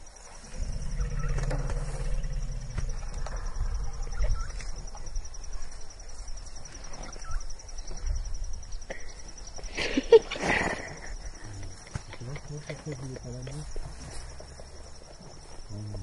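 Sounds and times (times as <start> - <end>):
high pulsing insect trill: 0.0 - 16.0.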